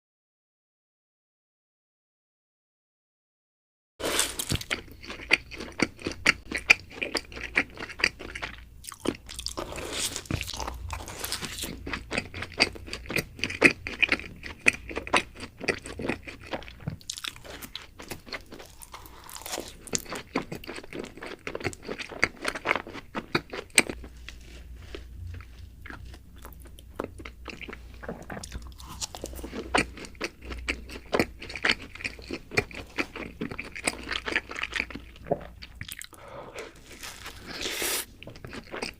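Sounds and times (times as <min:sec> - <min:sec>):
chewing and biting doughnuts: 0:04.0 - 0:38.9.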